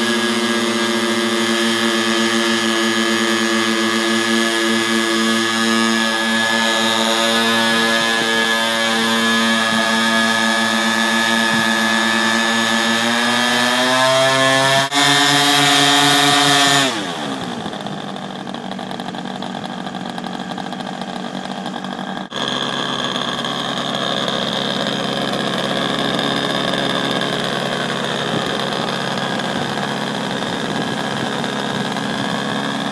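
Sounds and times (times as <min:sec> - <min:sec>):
model aircraft engines running: 0:00.0 - 0:32.9.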